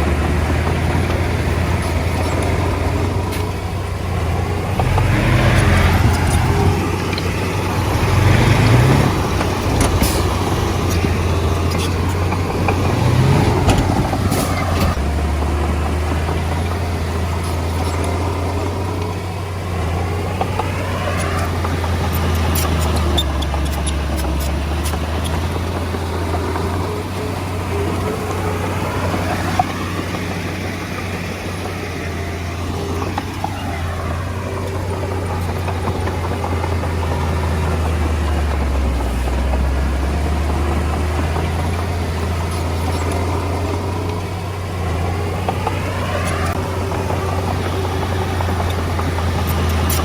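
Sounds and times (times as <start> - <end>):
bulldozer diesel engine: 0.0 - 50.0.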